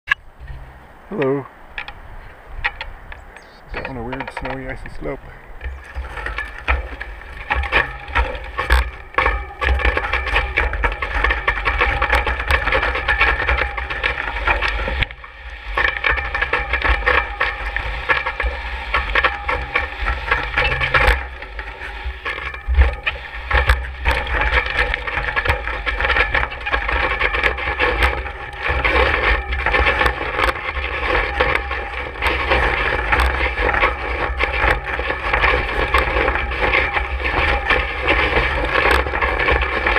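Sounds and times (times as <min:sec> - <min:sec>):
bike rattling over rough ground: 0:00.1 - 0:39.9.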